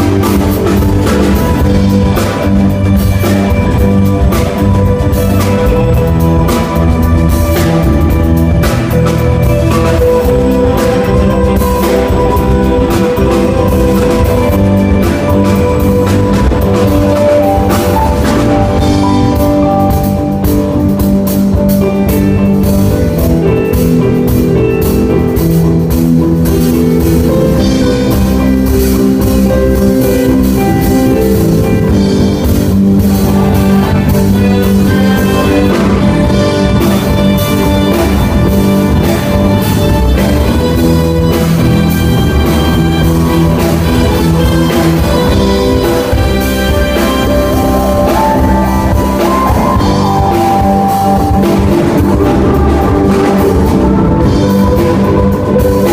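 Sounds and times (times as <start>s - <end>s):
rock band playing: 0.0s - 55.9s.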